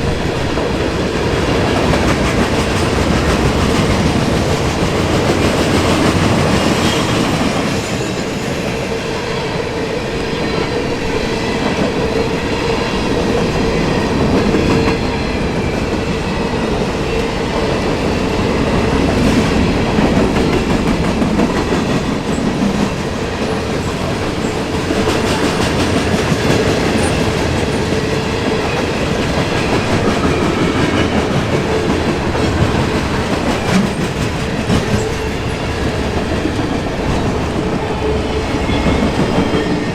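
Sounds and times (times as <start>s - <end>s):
clickety-clack over rail joints: 0.0s - 9.4s, 10.6s - 39.9s
train wheels rumbling on rails: 0.0s - 39.9s.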